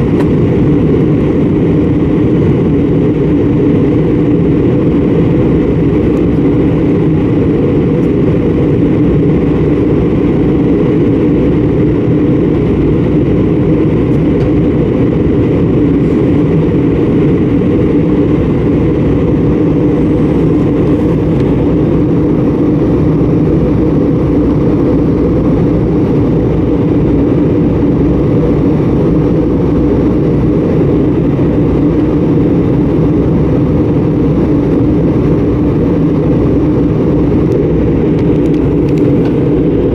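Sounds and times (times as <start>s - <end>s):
constant low hum: 0.0s - 39.9s
jet engine cabin drone: 0.0s - 39.9s.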